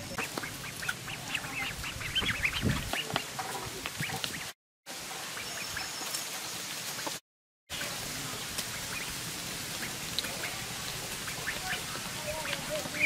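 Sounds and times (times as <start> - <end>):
ducks foraging pattering hiss: 0.0 - 13.0.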